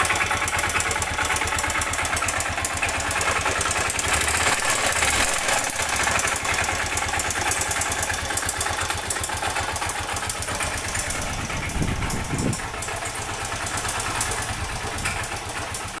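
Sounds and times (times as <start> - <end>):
motorcycle engine idling: 0.0 - 16.0
rapid engine knocking: 0.0 - 16.0.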